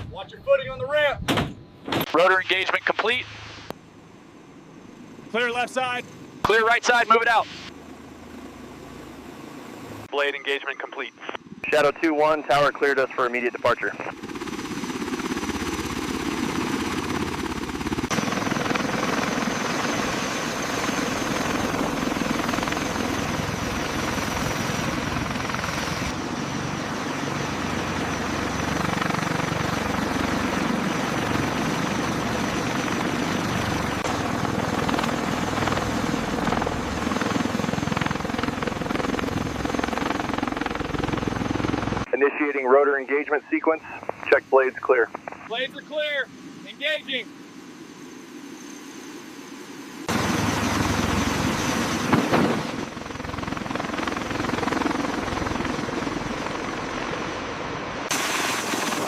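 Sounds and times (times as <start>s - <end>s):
helicopter rotors and turbine: 0.0s - 59.0s.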